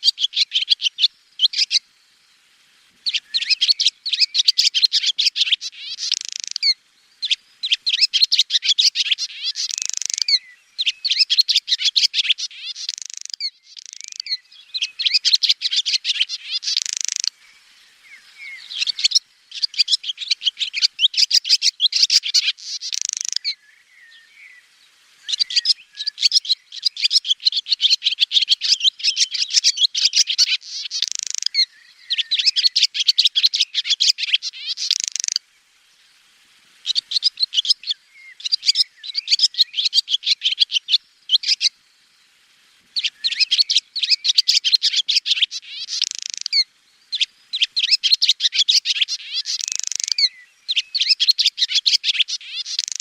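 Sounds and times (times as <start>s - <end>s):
swallow twittering: 0.0s - 1.8s, 3.0s - 24.6s, 25.2s - 35.4s, 36.8s - 41.8s, 43.0s - 53.0s.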